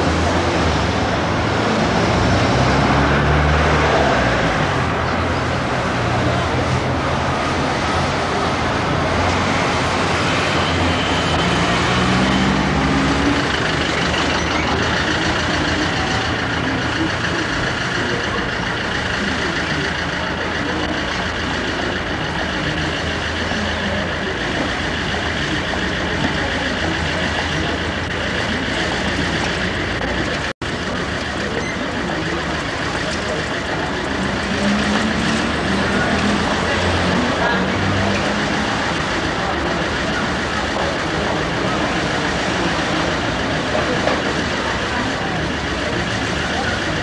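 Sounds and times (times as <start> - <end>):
road noise: 0.0 - 47.0
vehicle engines running: 0.0 - 47.0.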